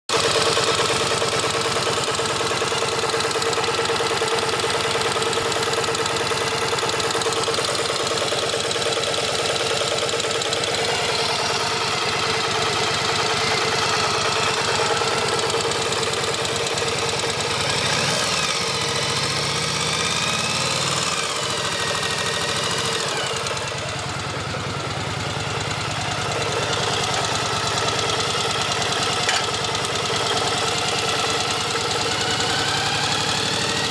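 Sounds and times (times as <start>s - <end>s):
motorcycle engine idling with rattle: 0.1s - 33.9s.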